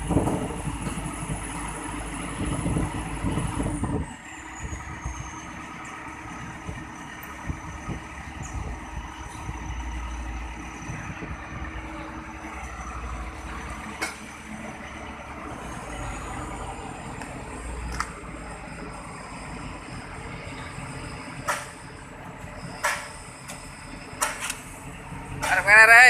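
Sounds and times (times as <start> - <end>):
heavy equipment engine revving: 0.0 - 25.7
high engine whine: 0.0 - 26.0.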